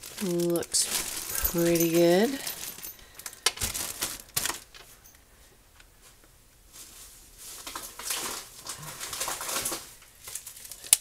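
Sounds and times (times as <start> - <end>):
plastic packaging rustling: 0.0 - 5.1, 6.7 - 11.0.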